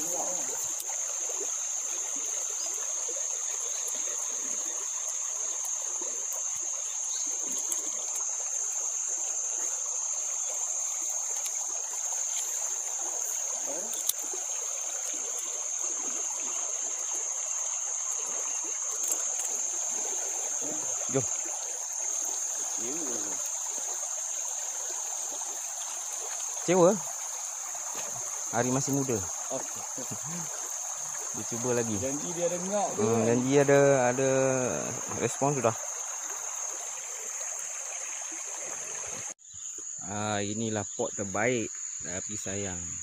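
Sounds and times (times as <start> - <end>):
stream rippling over stones: 0.0 - 39.4
high-pitched insect drone: 0.0 - 43.0.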